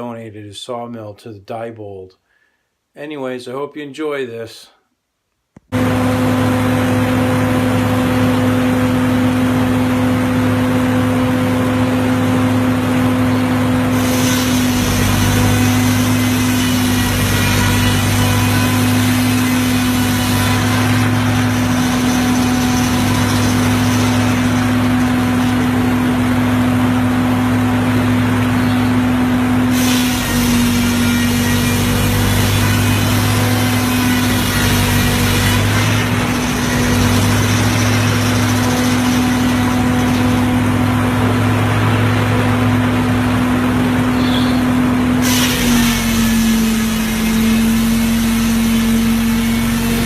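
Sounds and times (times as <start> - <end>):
engine running steadily: 5.8 - 50.0.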